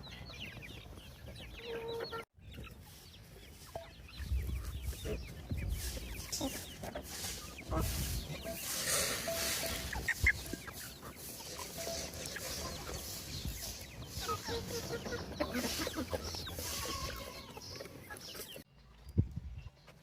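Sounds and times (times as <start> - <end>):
chickens clucking: 0.0 - 19.9
chicks peeping: 0.0 - 20.0.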